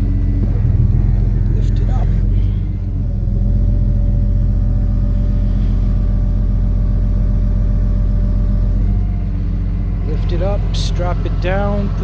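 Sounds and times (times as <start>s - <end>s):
hydraulic lift whining: 0.0s - 12.0s
truck engine running: 0.0s - 12.0s.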